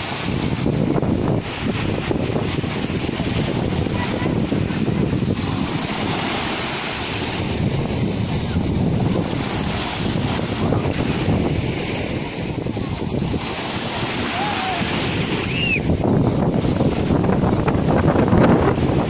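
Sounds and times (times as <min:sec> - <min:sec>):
sea surf washing in: 0:00.0 - 0:19.0
wind buffeting microphone: 0:00.0 - 0:19.0.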